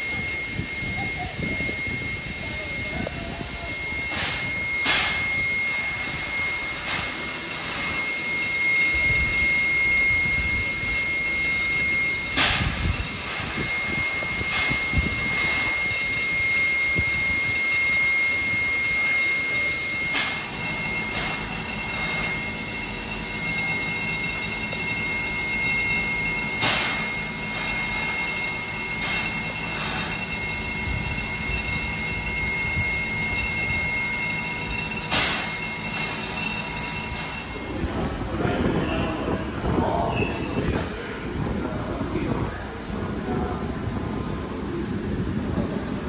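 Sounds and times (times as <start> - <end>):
steam locomotive hissing: 0.0 - 38.3
station platform ambience: 0.0 - 46.0.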